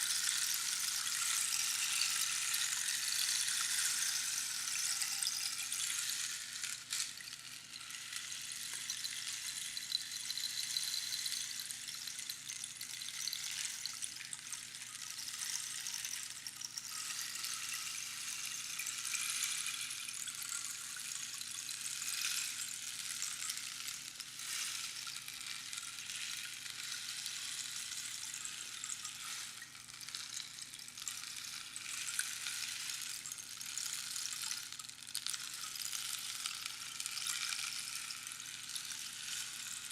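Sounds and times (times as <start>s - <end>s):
rainstick pebbles trickling: 0.0s - 39.9s.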